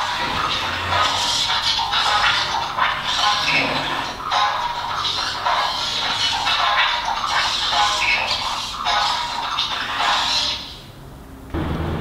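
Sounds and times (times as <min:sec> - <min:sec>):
thin music from small speaker: 0:00.0 - 0:10.9.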